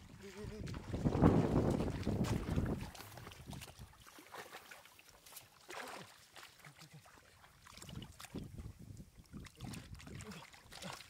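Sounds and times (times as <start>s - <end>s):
shallow water sloshing: 0.0s - 11.0s
short splashes: 0.0s - 11.0s.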